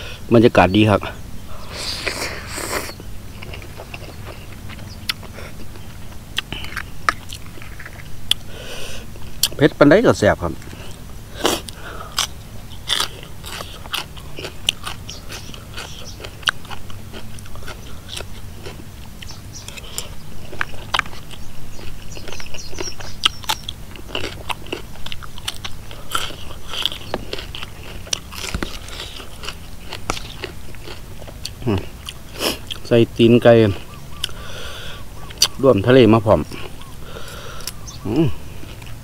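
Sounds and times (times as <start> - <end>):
person crunching raw vegetables: 1.5 - 9.6, 10.4 - 39.0.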